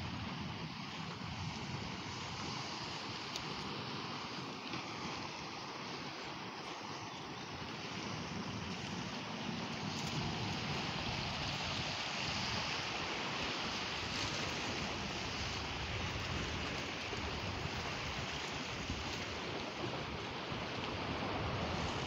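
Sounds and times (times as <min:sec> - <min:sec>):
wind buffeting microphone: 0:00.0 - 0:06.0, 0:07.9 - 0:22.0
waves washing on rocky shore: 0:00.0 - 0:22.0.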